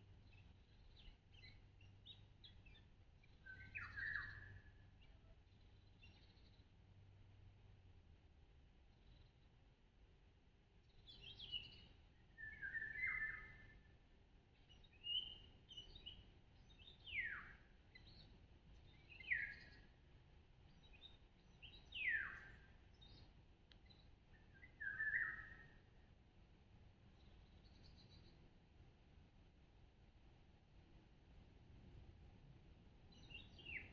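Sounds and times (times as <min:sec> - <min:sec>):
faint background hiss: 0:00.0 - 0:33.9.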